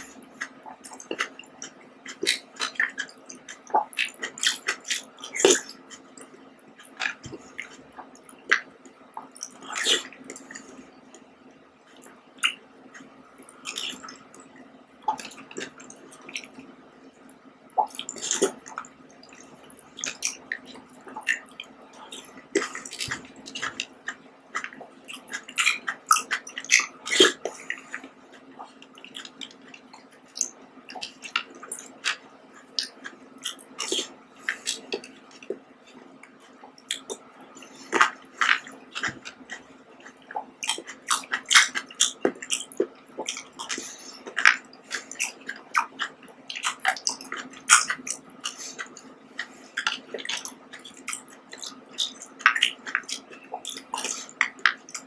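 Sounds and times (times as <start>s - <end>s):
wet squishy chewing: 0.0s - 16.7s, 17.3s - 55.0s
low steady hum: 0.0s - 55.0s.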